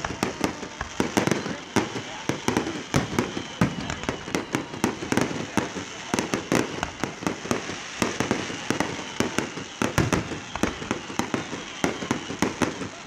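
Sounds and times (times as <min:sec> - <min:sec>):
crackling firework sparks: 0:00.0 - 0:13.0
fireworks bangs: 0:00.0 - 0:13.0.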